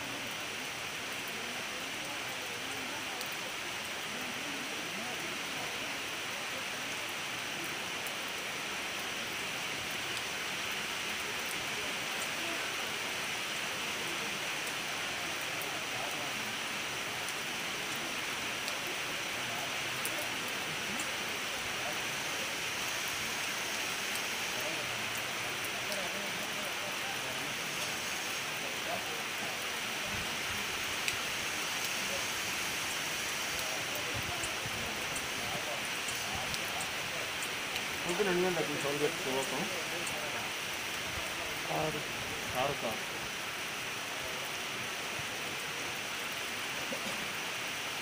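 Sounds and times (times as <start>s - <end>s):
rain on stone paving: 0.0s - 48.0s.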